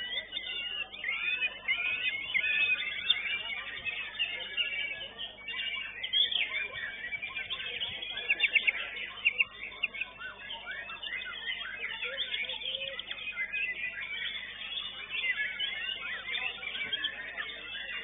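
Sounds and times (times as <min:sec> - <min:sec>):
bird singing whistles and trills: 0:00.0 - 0:18.0.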